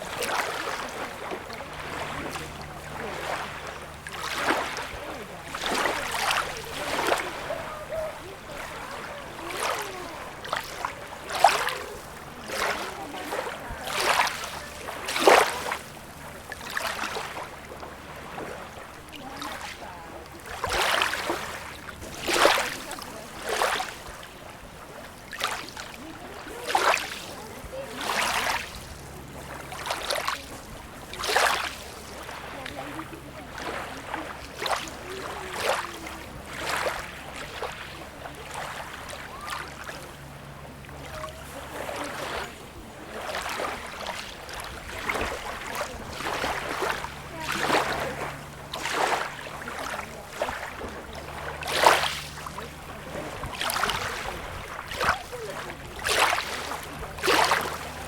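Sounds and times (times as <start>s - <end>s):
small waves lapping and splashing: 0.0s - 58.0s.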